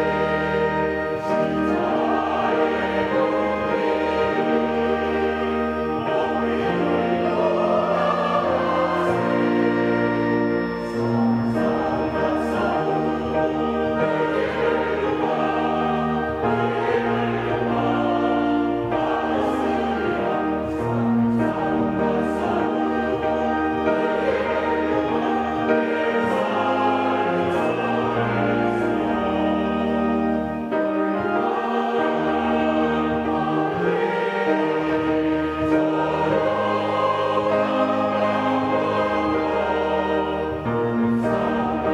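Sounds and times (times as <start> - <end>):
church choir singing a hymn: 0.0 - 41.9
piano: 0.0 - 41.9
pipe organ: 0.0 - 41.9.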